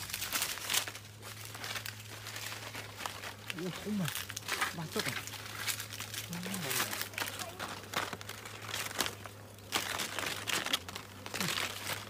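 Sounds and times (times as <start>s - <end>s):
rustling and crackling: 0.0s - 12.0s.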